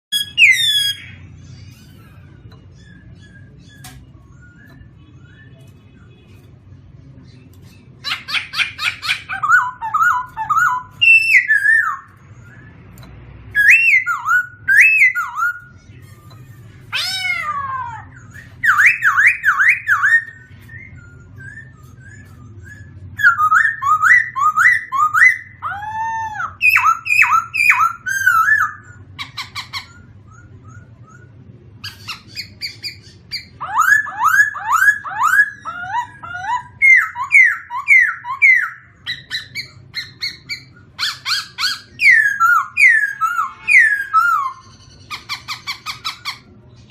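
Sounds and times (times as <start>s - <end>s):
faint low background hum: 0.1s - 46.9s
songbird singing: 0.1s - 46.9s.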